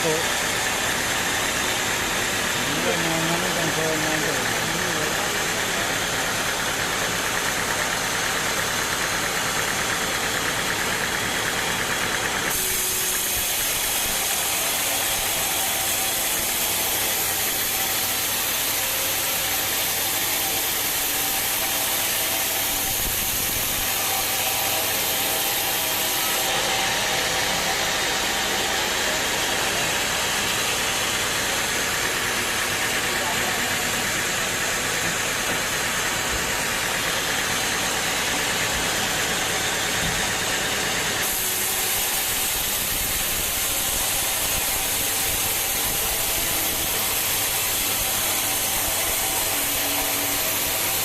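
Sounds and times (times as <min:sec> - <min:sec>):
sawmill machinery running: 0:00.0 - 0:51.0.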